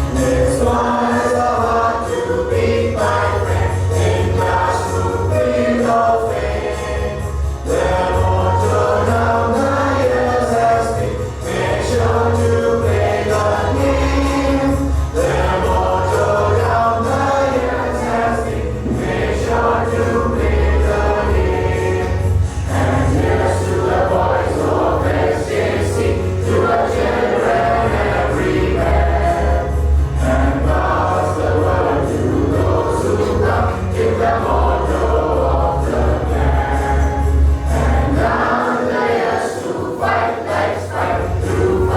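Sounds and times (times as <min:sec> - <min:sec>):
choir singing with accompaniment: 0:00.0 - 0:41.9.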